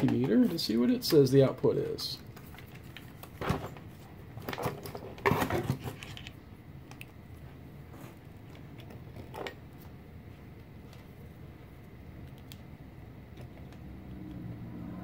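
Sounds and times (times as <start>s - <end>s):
small cooling fan running: 0.0s - 15.0s.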